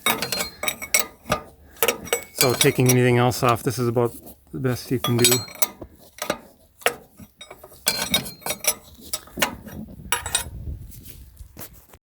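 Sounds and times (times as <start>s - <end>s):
wrench clinking against metal: 0.0s - 10.6s.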